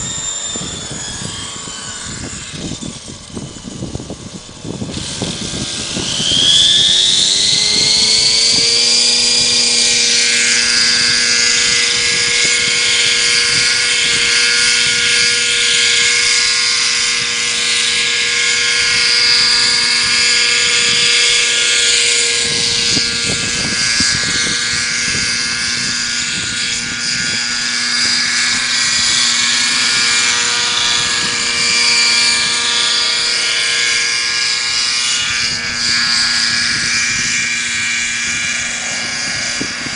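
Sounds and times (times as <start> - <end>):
rc helicopter engine whine: 0.0 - 39.9.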